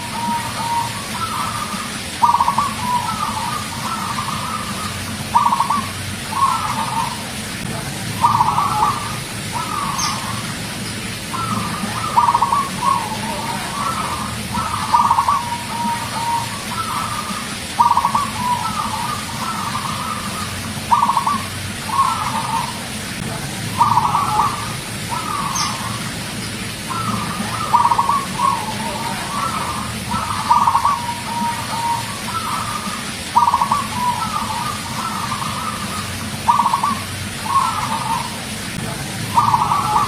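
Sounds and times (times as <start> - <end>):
dove cooing: 0.0 - 40.0.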